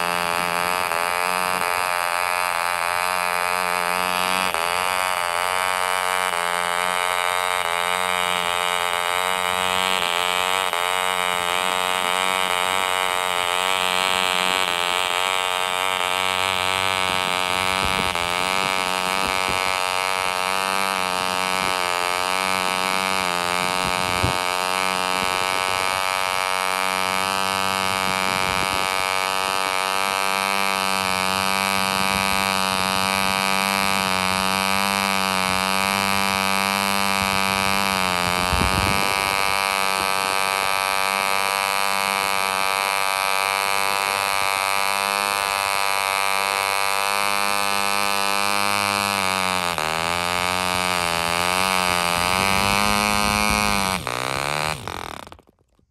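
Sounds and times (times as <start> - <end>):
model engine high-pitched buzz: 0.0 - 55.9.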